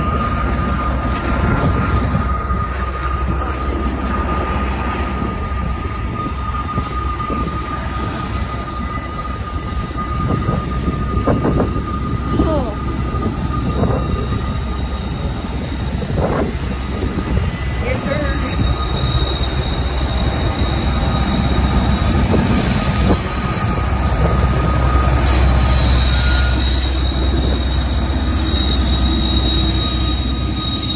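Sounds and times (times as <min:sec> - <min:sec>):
freight train rumbling: 0:00.0 - 0:30.9
train wheel squeal: 0:00.0 - 0:30.9.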